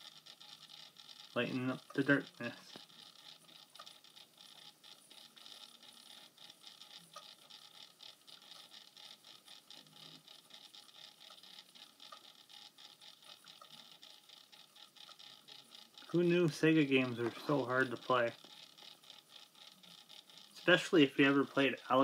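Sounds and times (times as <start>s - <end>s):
small motor whirring and ticking: 0.0s - 22.0s.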